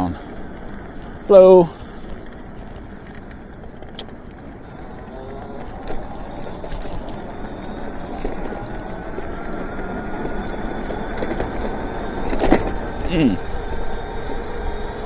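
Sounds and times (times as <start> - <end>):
electric motor whine: 0.0 - 15.0
tyres on road: 0.0 - 15.0.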